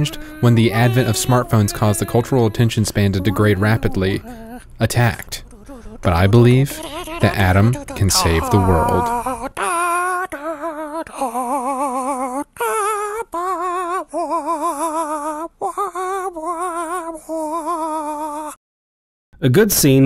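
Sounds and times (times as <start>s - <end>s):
wordless vocal melody: 0.0s - 17.8s.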